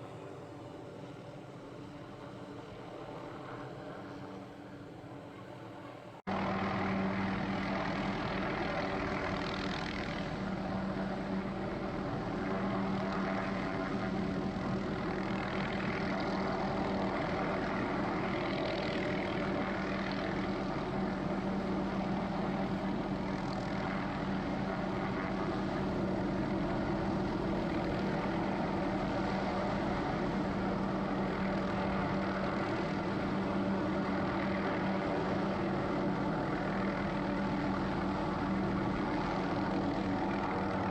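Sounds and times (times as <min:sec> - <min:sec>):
helicopter drone: 0:00.0 - 0:40.9.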